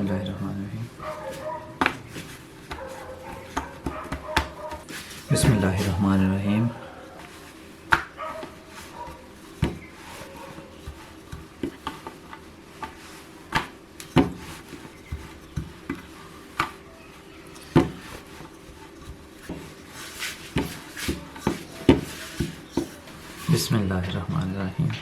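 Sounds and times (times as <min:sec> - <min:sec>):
rolling pin knocking on board: 0:01.0 - 0:06.0, 0:07.9 - 0:23.3.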